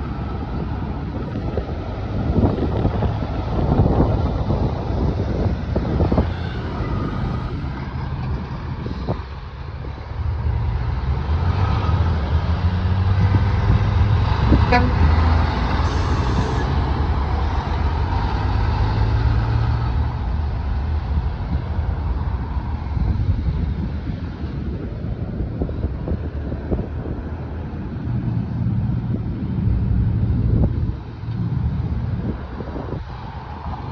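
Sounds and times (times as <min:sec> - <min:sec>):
truck diesel engines droning: 0:00.0 - 0:33.9
wind buffeting microphone: 0:00.0 - 0:33.9.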